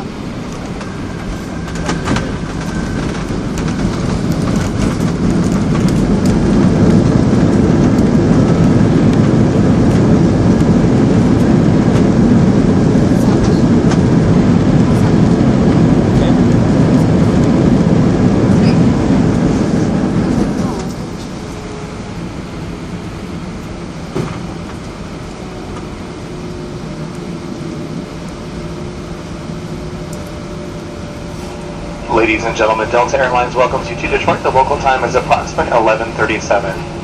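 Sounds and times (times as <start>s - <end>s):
airplane cabin rumble: 0.0s - 37.0s
jet engine reverse thrust: 0.0s - 37.0s.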